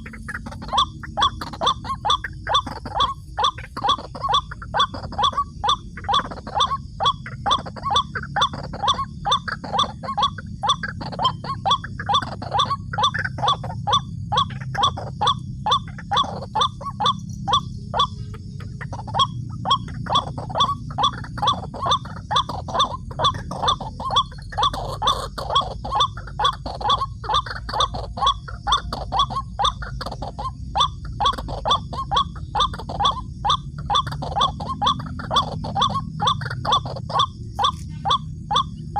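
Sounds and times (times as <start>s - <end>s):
steady low rumble: 0.0s - 38.9s
waterhen calling: 0.0s - 38.9s.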